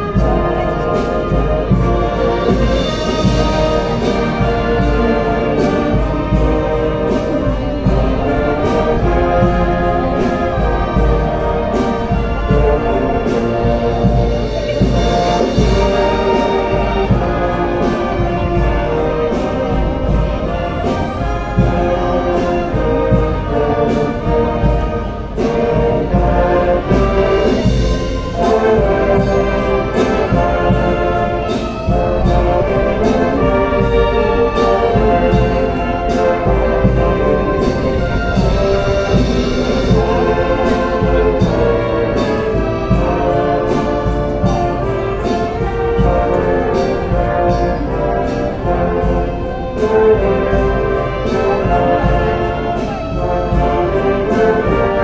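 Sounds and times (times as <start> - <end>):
brass band playing: 0.0 - 55.0
steady percussion beat: 0.0 - 55.0.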